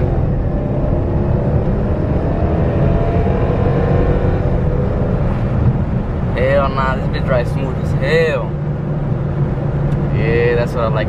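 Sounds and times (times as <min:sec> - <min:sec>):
car engine drone accelerating: 0:00.0 - 0:11.0.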